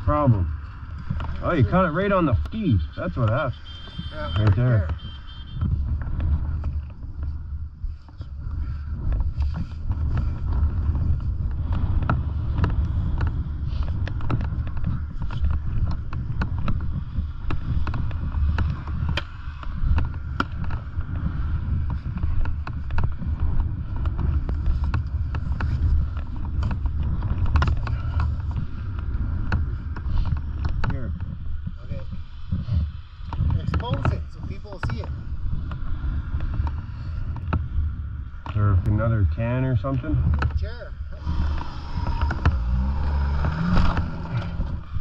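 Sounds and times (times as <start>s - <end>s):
snowmobile engine rumbling: 0.0s - 45.0s
wind buffeting microphone: 0.0s - 45.0s
knocks and clicks at microphone: 0.2s - 7.4s, 8.0s - 39.1s, 39.9s - 45.0s.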